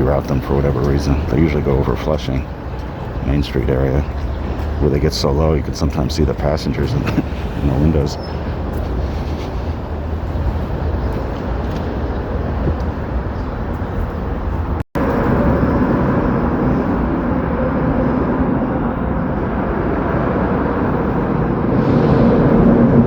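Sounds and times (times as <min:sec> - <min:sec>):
city street traffic rumble: 0:00.0 - 0:23.0.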